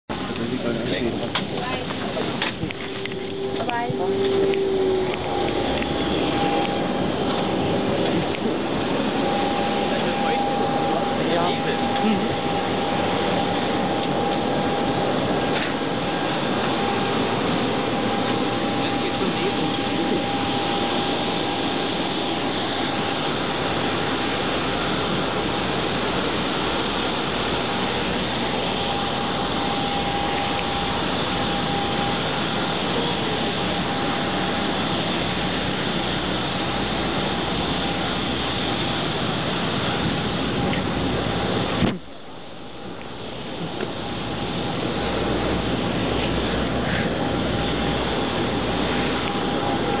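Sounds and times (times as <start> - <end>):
constant high whine: 0.0 - 50.0
aircraft rushing noise: 0.1 - 50.0.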